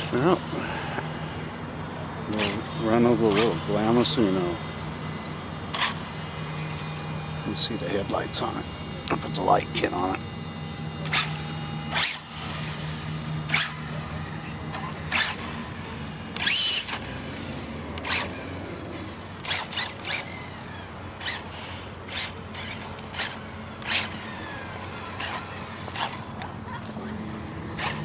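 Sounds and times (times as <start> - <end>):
toy car electric motor whining: 0.0 - 28.0.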